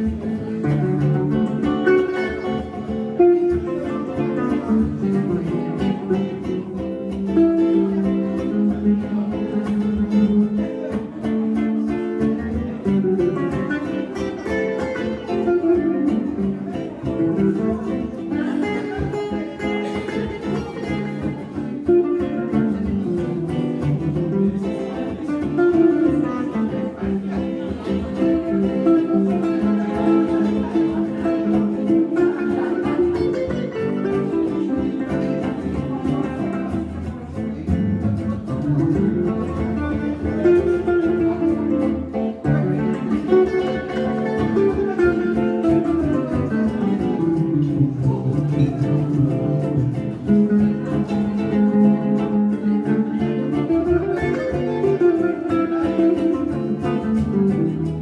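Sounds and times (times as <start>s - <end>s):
jazz electric guitar duo: 0.0s - 58.0s.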